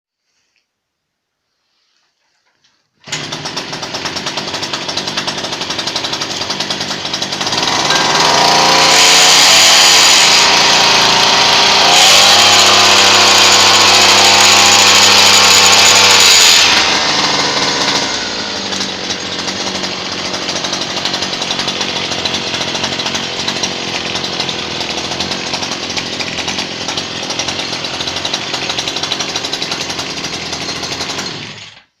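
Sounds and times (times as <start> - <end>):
outboard motor idling and revving: 3.1 - 31.8.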